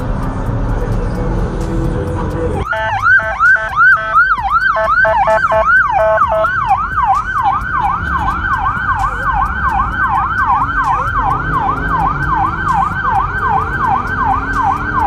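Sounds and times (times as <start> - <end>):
police siren yelping: 2.6 - 15.0.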